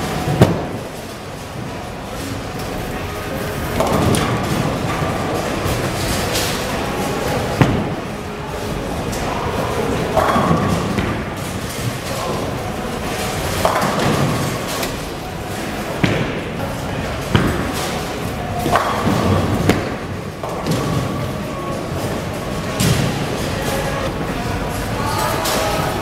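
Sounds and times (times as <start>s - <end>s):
bowling pins clattering: 0.0s - 24.7s
bowling balls rolling: 0.0s - 25.0s.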